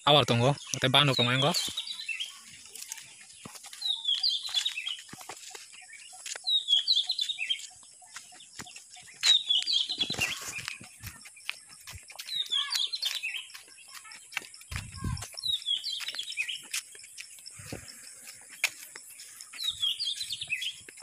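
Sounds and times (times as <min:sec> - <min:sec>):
bird singing high chirpy phrase: 0:00.2 - 0:03.1, 0:03.7 - 0:05.1, 0:05.8 - 0:16.7, 0:19.1 - 0:20.9.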